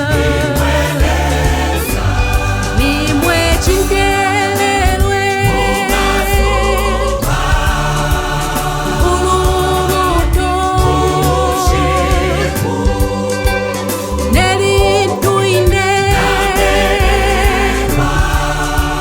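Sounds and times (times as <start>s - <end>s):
gospel choir singing: 0.0s - 19.0s
low bass line: 0.0s - 19.0s
percussion: 0.0s - 19.0s.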